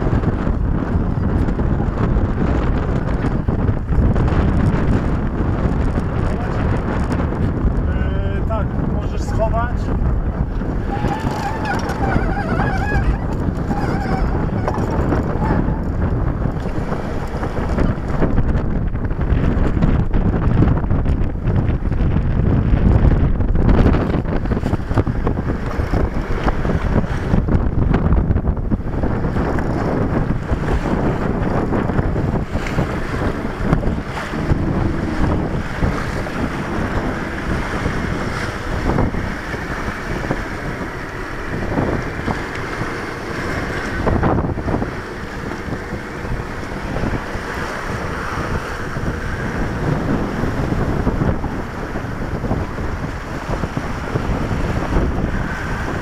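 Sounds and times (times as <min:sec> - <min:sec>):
sea rushing along hull: 0:00.0 - 0:56.0
wind buffeting microphone: 0:00.0 - 0:56.0.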